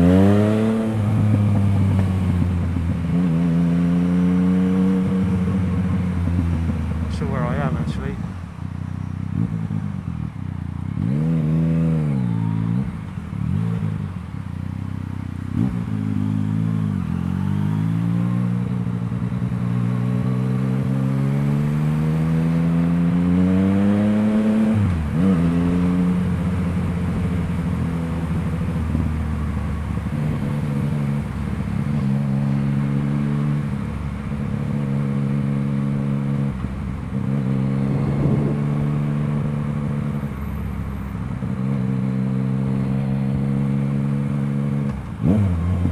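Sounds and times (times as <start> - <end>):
motorcycle engine revving: 0.0 - 8.1, 9.2 - 45.9.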